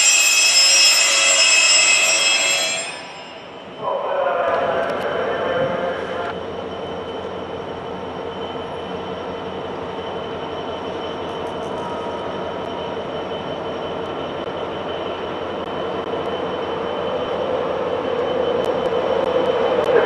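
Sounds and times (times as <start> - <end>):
electric train approaching: 0.0 - 20.0.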